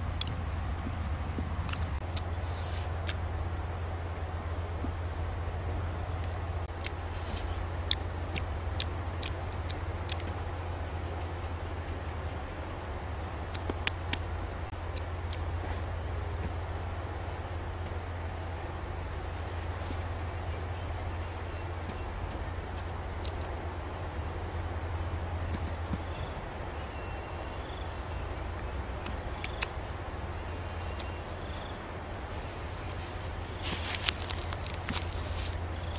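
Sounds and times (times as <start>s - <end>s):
constant low hum: 0.0s - 35.9s
insects chirring: 0.0s - 35.9s.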